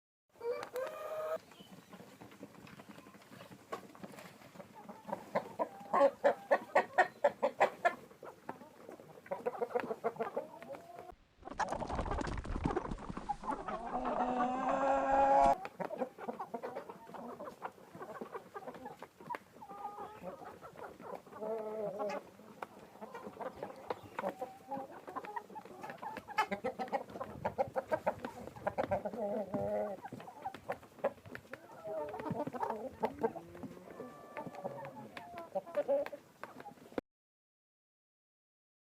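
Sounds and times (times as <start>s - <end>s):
chickens cackling and calling: 0.4s - 37.0s
chickens clucking: 0.4s - 37.0s.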